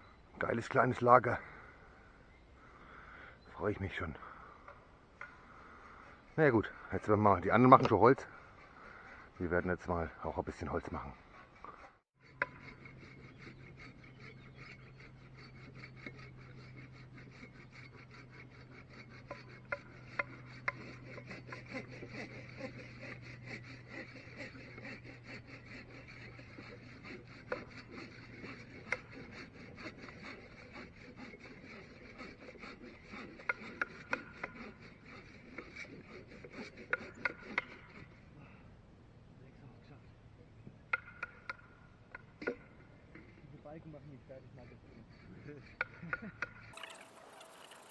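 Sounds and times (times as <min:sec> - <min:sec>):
dry wood rubbing and rasping: 0:05.6 - 0:38.4, 0:40.9 - 0:47.9.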